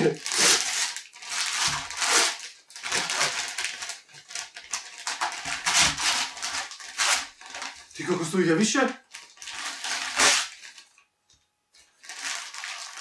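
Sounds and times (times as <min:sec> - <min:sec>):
wrapping paper tearing: 0:00.0 - 0:11.0, 0:11.8 - 0:13.0.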